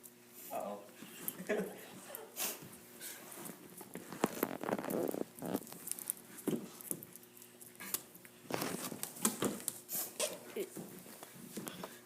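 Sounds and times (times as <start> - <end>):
people chewing oranges: 0.9 - 12.0.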